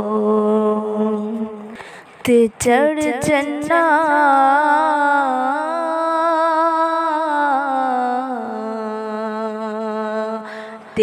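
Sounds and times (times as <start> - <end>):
solo voice singing long notes: 0.0 - 1.8, 2.6 - 11.0.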